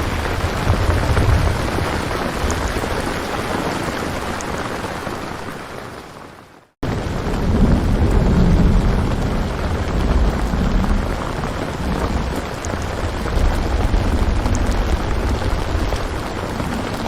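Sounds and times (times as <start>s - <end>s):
thunder rumble: 0.0s - 5.0s, 6.8s - 17.0s
heavy rain: 0.0s - 17.0s.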